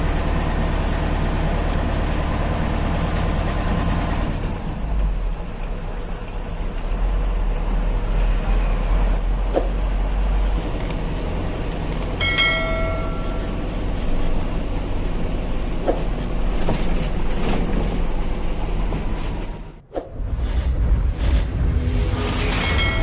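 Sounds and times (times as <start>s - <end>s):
heavy truck engine and road rumble: 0.0s - 23.0s.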